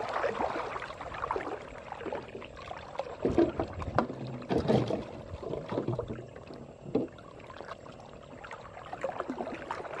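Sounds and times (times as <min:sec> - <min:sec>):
person wading through water: 0:00.0 - 0:10.0
water lapping: 0:00.0 - 0:10.0.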